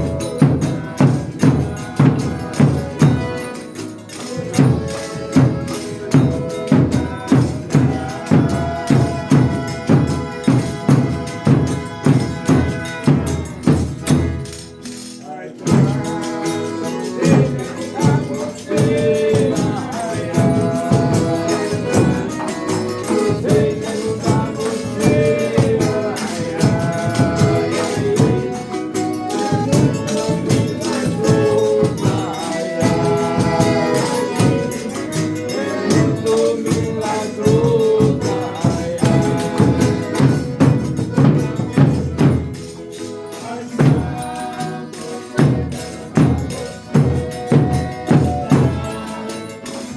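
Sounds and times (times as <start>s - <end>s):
rhythmic percussion: 0.0s - 49.9s
tambourine jingles: 0.0s - 49.9s
voices singing: 0.0s - 49.9s.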